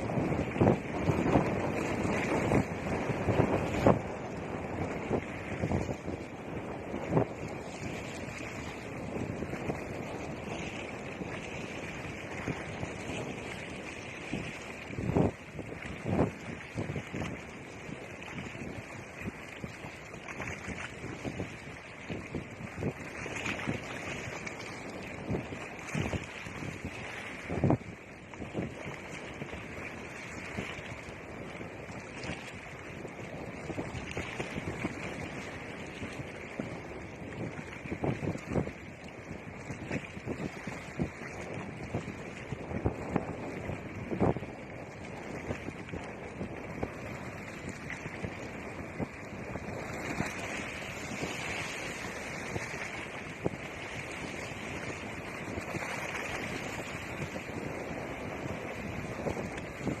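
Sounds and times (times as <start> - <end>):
waves washing in: 0.0 - 60.0
wind rumbling on microphone: 0.0 - 60.0.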